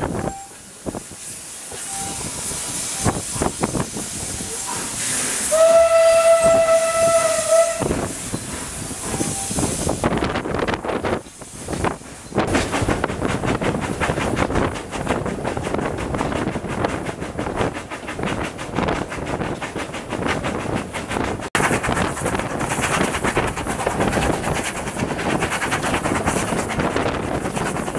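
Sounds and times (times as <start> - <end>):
rushing wind: 0.0 - 27.9
steam train wheels and exhaust: 0.0 - 27.9.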